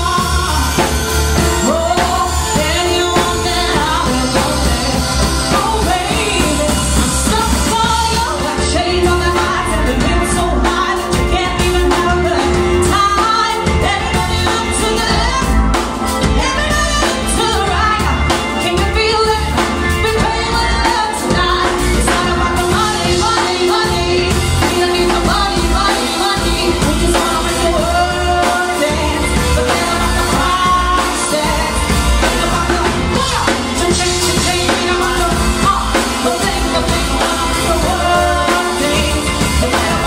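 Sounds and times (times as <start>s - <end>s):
drum kit: 0.0s - 40.0s
electric bass: 0.0s - 40.0s
keyboard: 0.0s - 40.0s
woman singing: 0.0s - 40.0s.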